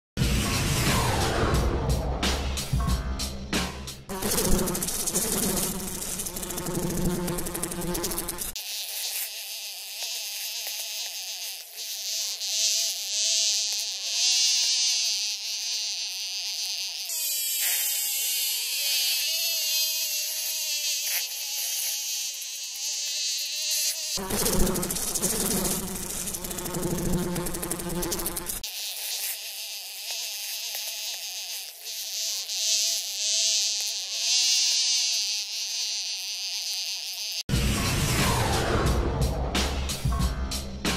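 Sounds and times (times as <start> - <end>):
house fly buzzing: 3.6 - 37.5.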